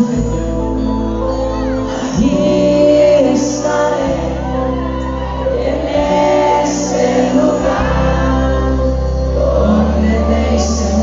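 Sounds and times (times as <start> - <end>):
bass: 0.0 - 11.0
male voice singing: 0.0 - 11.0.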